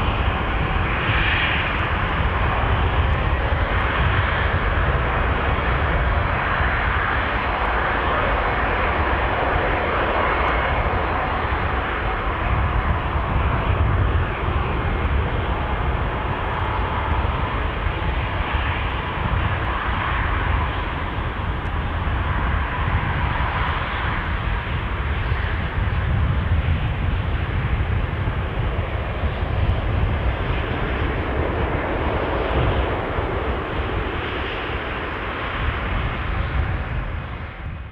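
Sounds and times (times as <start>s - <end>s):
faint jet engine whine: 0.0s - 37.9s
jet engines rumbling at takeoff: 0.0s - 37.9s.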